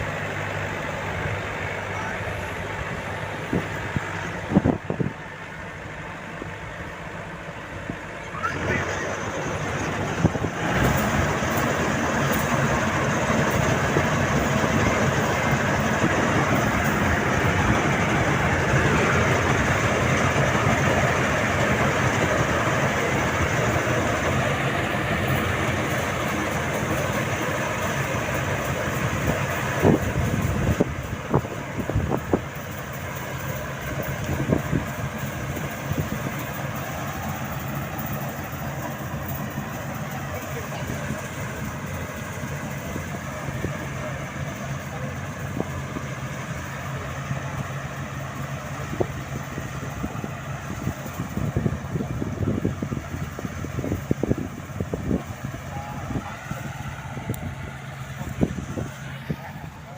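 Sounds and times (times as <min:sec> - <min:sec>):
combine harvester rumbling: 0:00.0 - 0:59.9.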